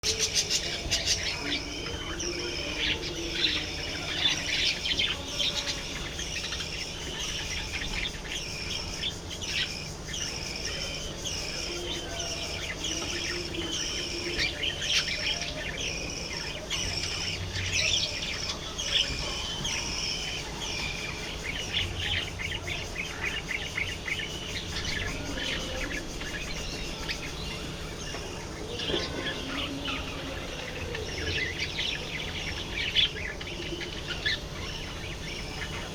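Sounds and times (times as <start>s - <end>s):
budgerigars chattering: 0.0s - 35.9s.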